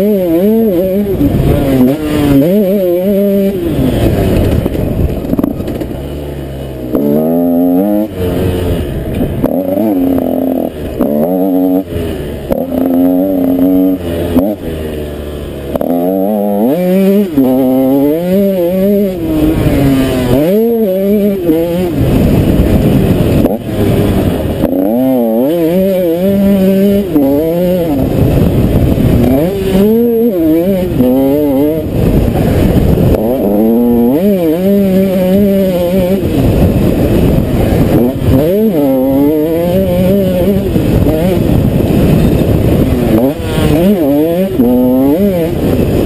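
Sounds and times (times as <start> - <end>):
motocross engine revving: 0.0 - 46.0.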